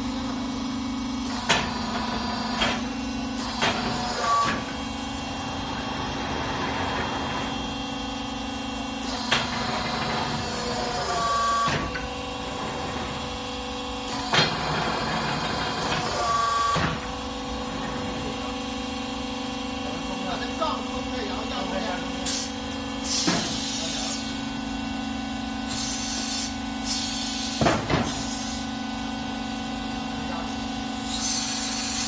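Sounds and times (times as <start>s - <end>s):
assembly machine humming: 0.0s - 32.0s.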